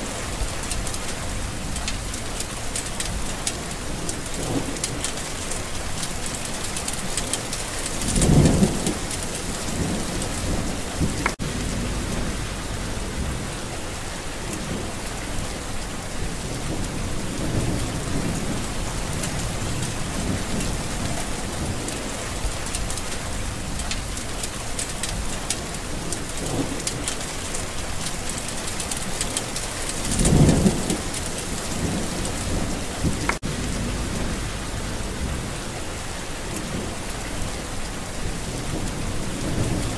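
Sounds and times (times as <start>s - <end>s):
heavy rain: 0.0s - 39.9s
thunder rumbles: 0.0s - 39.9s.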